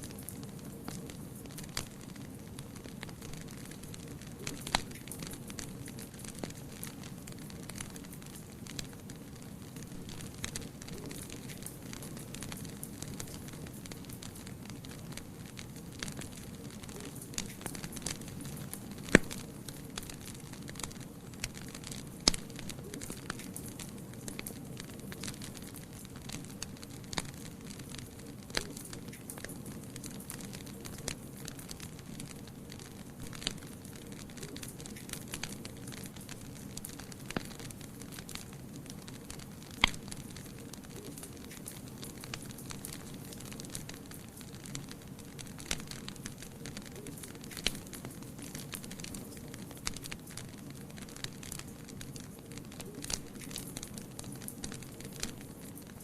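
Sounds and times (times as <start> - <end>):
fire burning in a fireplace: 0.0 - 56.0
fire crackles and pops: 0.0 - 56.0.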